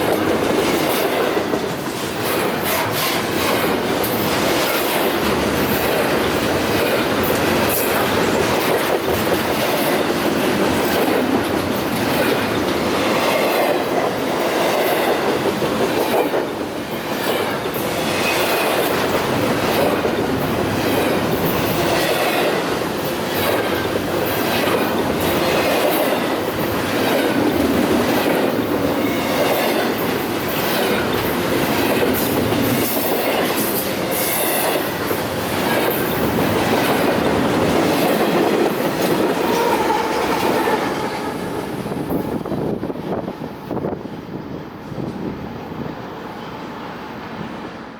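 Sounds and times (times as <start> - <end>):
train wheels clickety-clack: 0.0 - 46.5.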